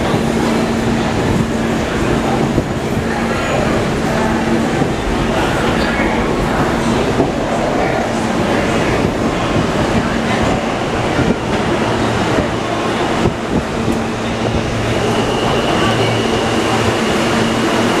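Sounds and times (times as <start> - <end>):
crowded station noise: 0.0 - 18.0
subway train humming: 0.0 - 18.0.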